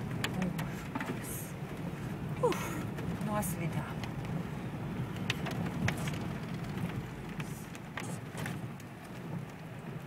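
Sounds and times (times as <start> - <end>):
clicks and knocks over bumps: 0.0 - 9.8
car engine and tyres rumbling: 0.0 - 10.0.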